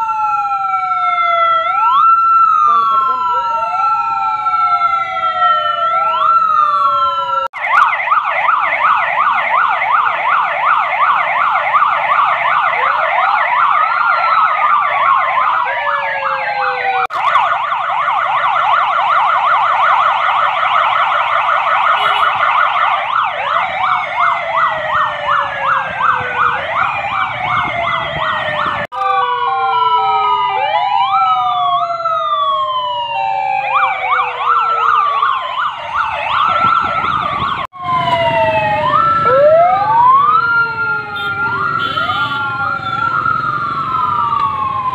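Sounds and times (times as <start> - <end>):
police sirens wailing and yelping: 0.0 - 44.9.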